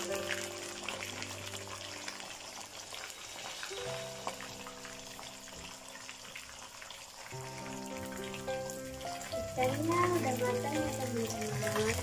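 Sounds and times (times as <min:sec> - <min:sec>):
background music with held notes: 0:00.0 - 0:12.0
fish sizzling in hot oil: 0:00.0 - 0:12.0.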